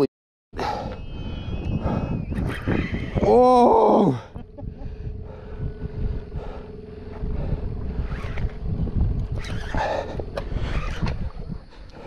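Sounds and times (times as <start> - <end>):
wind buffeting microphone: 0.6 - 12.0
boat motor humming: 0.7 - 12.0.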